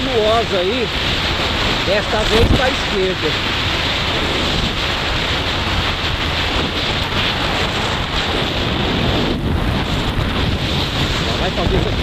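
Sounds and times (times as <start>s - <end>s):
motorcycle drone: 0.0s - 12.0s
wind buffeting microphone: 0.0s - 12.0s.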